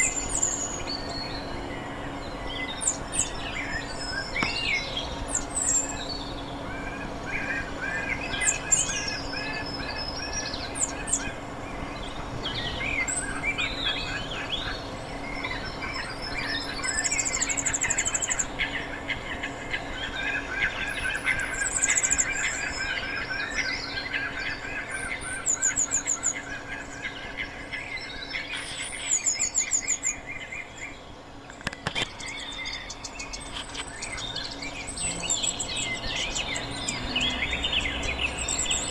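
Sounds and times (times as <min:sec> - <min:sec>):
birds chirping and calling: 0:00.0 - 0:38.9
high rapid bird trills: 0:00.0 - 0:38.9.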